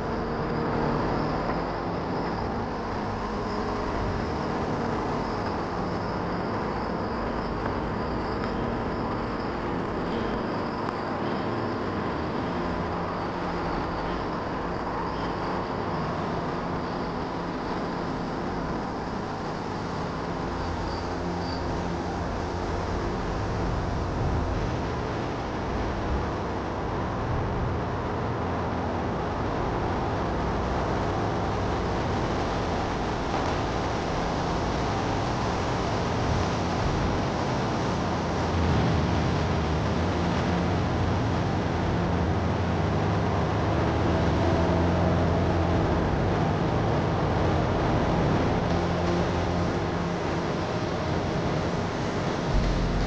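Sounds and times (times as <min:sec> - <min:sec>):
low rumble and hiss: 0:00.0 - 0:53.0.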